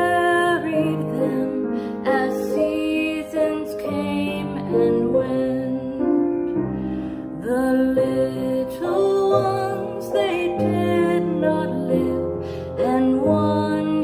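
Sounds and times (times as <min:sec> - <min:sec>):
piano accompaniment: 0:00.0 - 0:14.0.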